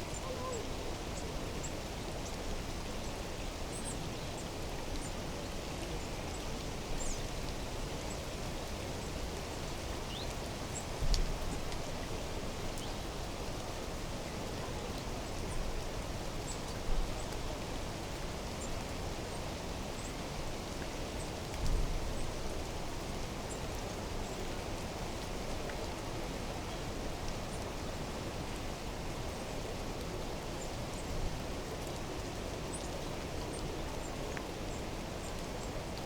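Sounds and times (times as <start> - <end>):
even outdoor hiss: 0.0 - 36.0.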